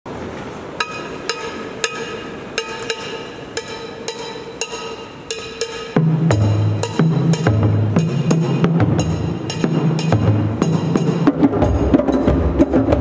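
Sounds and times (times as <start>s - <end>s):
steady held tone: 0.6s - 12.6s
mallet percussion notes: 0.8s - 13.0s.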